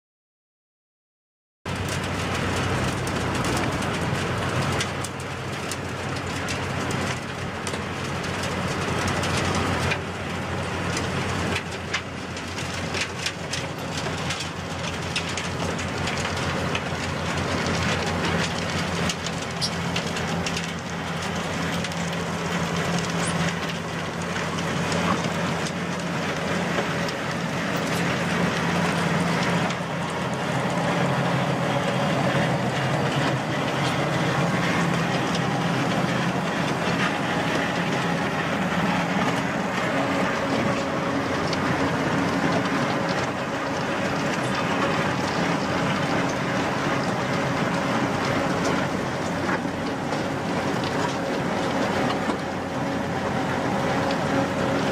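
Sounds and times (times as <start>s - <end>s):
machine engine chugging: 1.7s - 54.9s.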